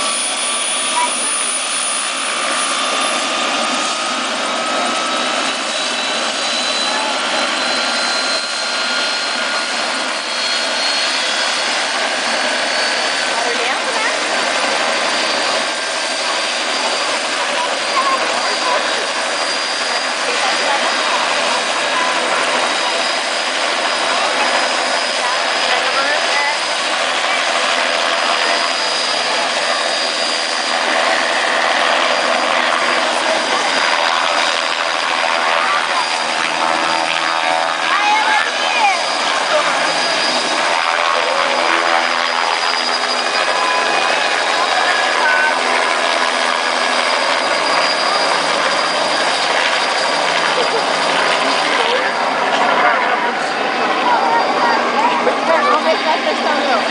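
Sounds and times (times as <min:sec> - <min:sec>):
helicopter turbine and rotor: 0:00.0 - 0:56.9.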